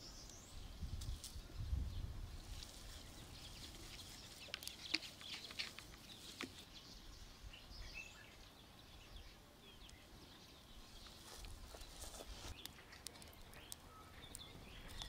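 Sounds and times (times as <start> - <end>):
faint bird chirp: 0.0 - 15.0.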